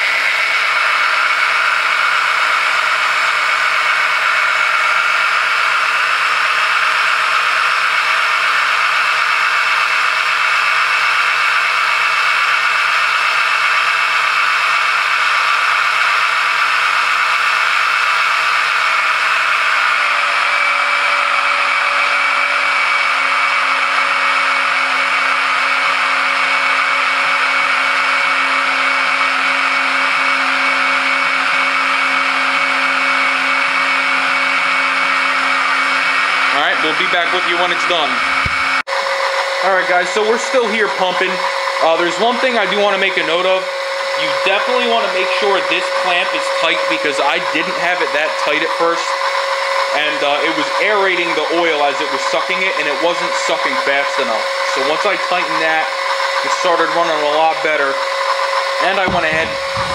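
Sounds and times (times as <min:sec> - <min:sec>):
electric pump whine: 0:00.0 - 0:59.9.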